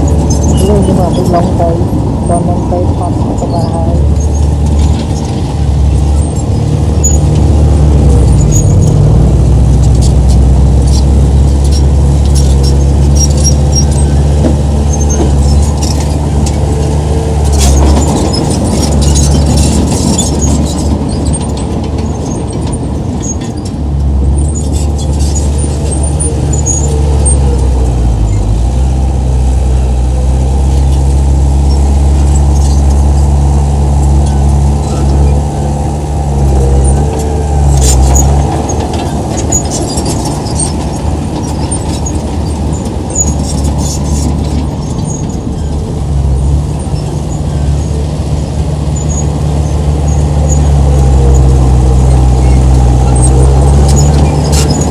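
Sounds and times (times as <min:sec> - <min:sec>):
bulldozer diesel engine under load: 0:00.0 - 0:54.9
steel tracks squeaking: 0:00.0 - 0:54.9.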